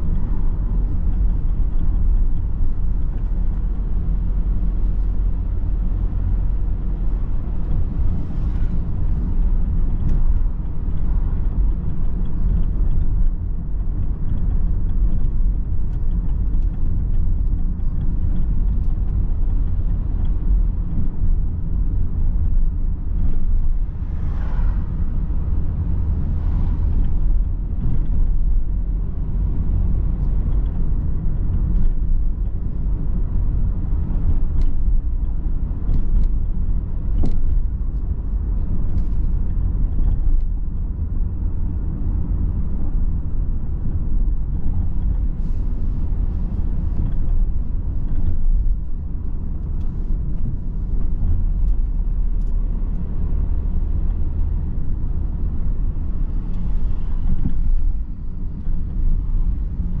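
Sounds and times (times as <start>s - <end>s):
car tyre and engine rumble: 0.0s - 60.0s.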